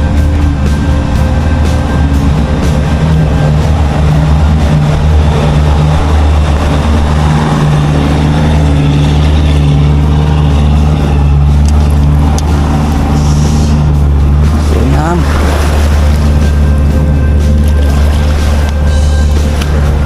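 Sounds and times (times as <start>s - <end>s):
motorboat engine drone: 0.0s - 20.0s.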